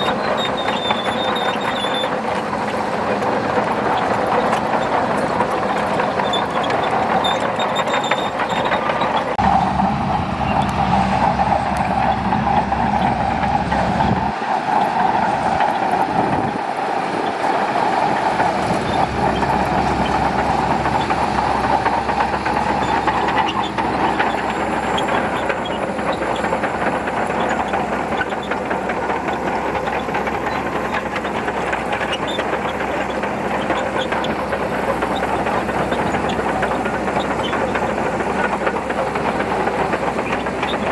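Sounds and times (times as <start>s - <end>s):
diesel engine under load: 0.0s - 40.9s
steel tracks clattering: 0.0s - 40.9s.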